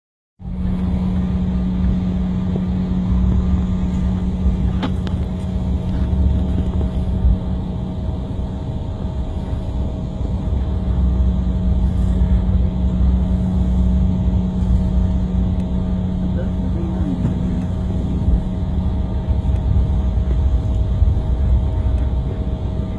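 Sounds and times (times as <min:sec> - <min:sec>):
aircraft engine cabin hum: 0:00.4 - 0:22.9.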